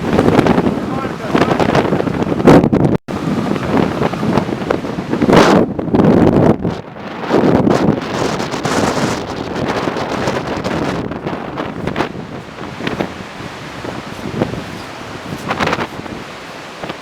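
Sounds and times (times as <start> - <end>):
storm surf: 0.0 - 17.0
wind gusting against microphone: 0.0 - 17.0.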